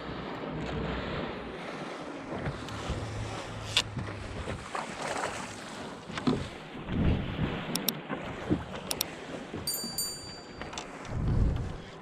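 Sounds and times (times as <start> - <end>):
water sloshing against kayak hull: 0.0 - 12.0.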